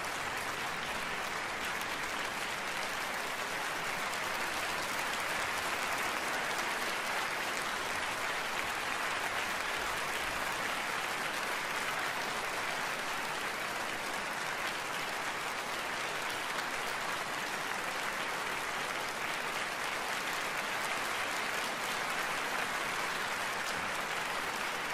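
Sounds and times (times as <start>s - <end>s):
audience applauding: 0.0s - 24.9s.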